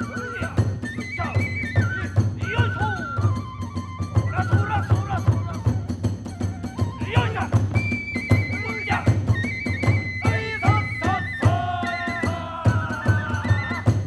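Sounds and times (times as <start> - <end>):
taiko drumbeat: 0.0 - 3.5, 4.1 - 14.0
high bamboo flute melody: 0.0 - 14.0.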